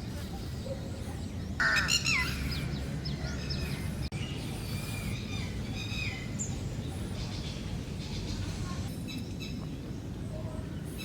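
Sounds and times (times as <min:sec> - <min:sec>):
wild birds calling and chirping: 0:00.0 - 0:11.0.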